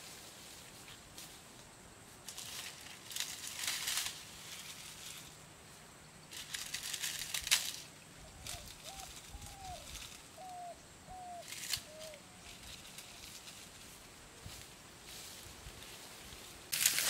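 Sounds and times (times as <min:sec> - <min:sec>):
leaves and twigs rustling: 0:00.0 - 0:17.0.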